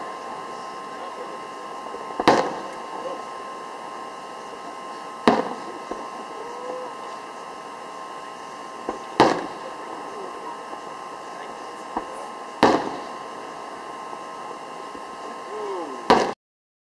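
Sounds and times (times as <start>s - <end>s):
murmur of voices: 0.0s - 13.6s, 14.4s - 16.2s
fireworks booming: 0.0s - 16.4s.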